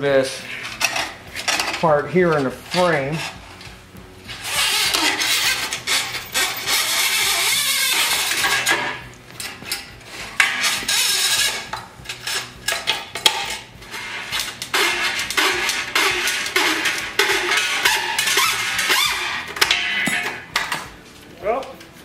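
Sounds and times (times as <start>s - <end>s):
cable scraping and rattling on metal: 0.0s - 22.0s.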